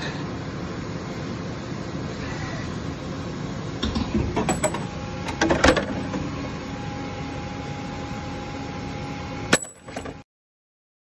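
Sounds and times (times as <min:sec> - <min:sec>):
machine mechanical hum: 0:00.0 - 0:10.3.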